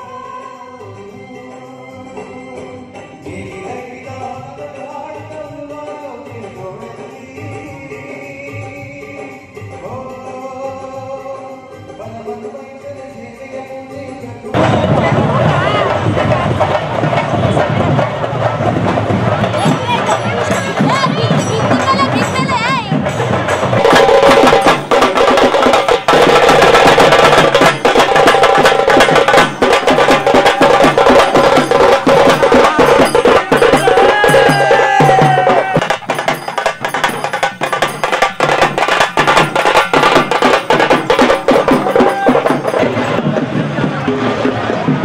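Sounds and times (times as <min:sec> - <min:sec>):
fast procession percussion: 0:00.0 - 0:45.0.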